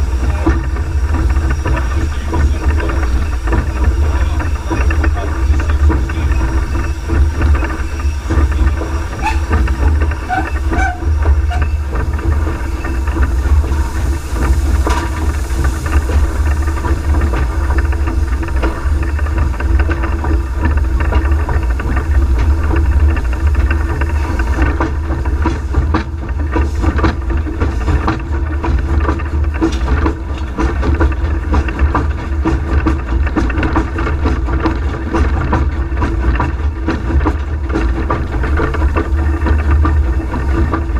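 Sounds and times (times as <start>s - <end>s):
knocks and clanks: 0.0s - 40.9s
steam locomotive rumble: 0.0s - 40.9s.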